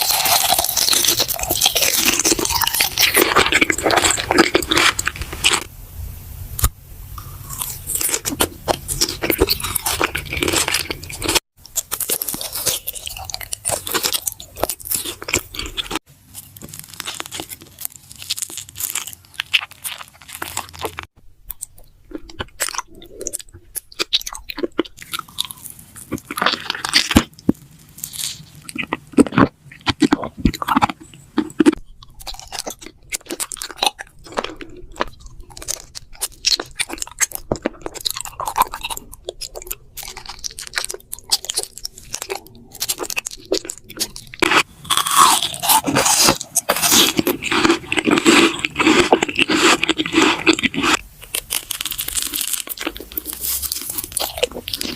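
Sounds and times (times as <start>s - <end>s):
crunchy chewing: 0.0s - 5.7s, 6.6s - 54.9s.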